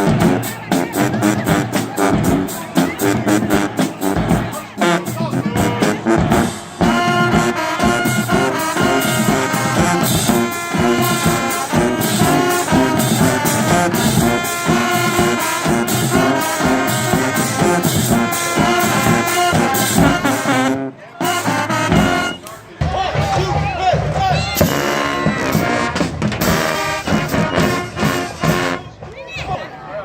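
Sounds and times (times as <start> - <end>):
brass band playing: 0.0 - 29.1.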